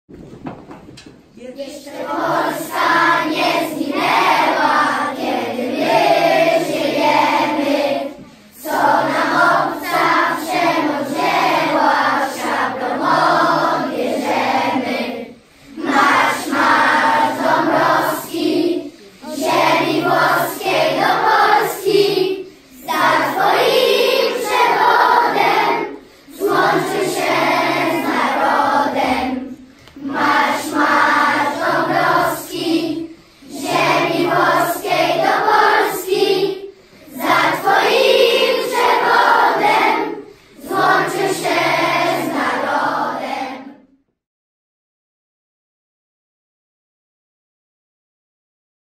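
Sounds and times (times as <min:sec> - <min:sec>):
children's choir singing: 0:01.5 - 0:44.0.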